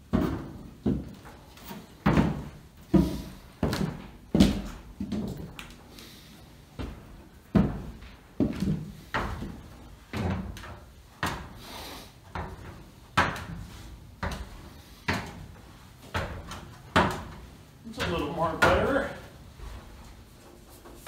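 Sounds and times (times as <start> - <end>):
footsteps on ladder rungs: 0.0 - 21.0
heavy footsteps on wooden floor: 0.0 - 21.0.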